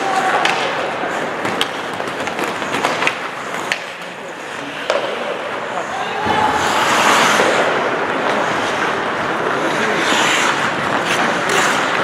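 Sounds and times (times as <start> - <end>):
skate blades scraping ice: 0.0 - 12.0.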